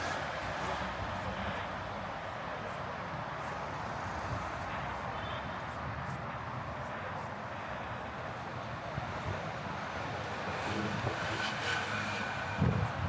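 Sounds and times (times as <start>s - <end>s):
cars passing on street: 0.0s - 13.0s.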